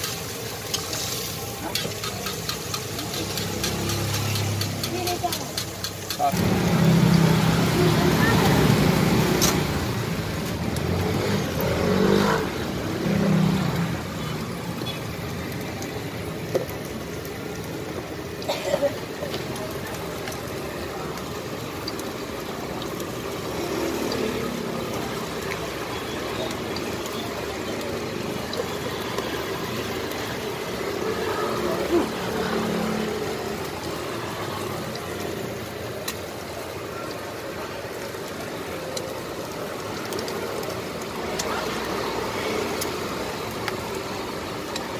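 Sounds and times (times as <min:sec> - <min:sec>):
passing cars and motorbikes: 0:00.0 - 0:17.6, 0:19.2 - 0:44.9.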